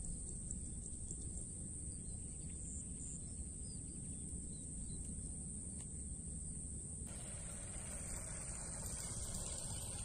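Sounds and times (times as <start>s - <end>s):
low wind rumble: 0.0s - 10.0s.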